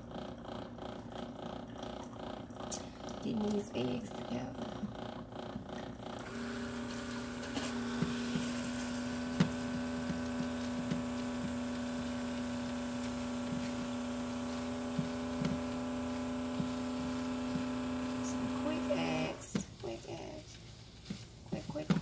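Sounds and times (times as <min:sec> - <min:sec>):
electric appliance hum: 0:00.0 - 0:22.0.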